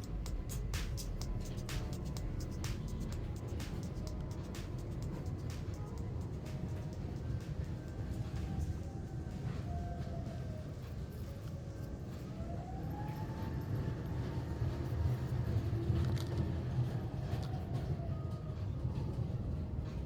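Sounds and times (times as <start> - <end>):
faint machine whine: 0.0 - 20.0
machinery rumble: 0.0 - 20.0.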